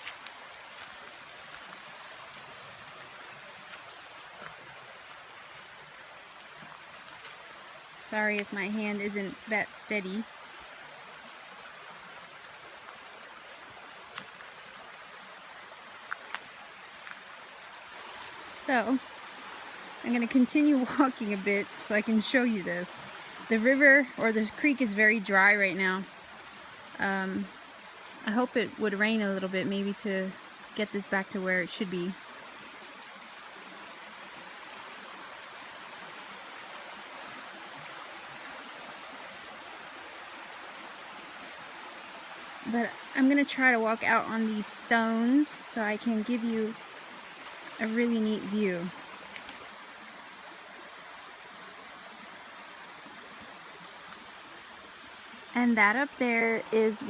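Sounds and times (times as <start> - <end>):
creek running over rocks: 0.0 - 57.0.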